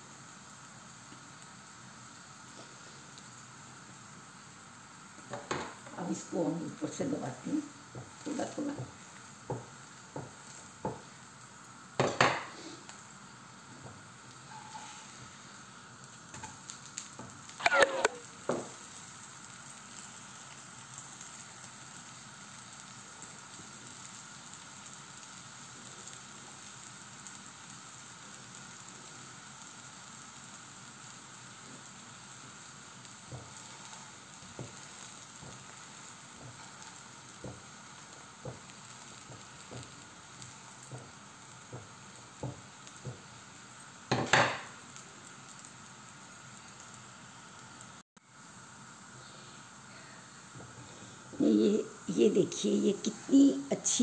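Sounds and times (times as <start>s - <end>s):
oil sizzling in a pan: 0.0s - 54.0s.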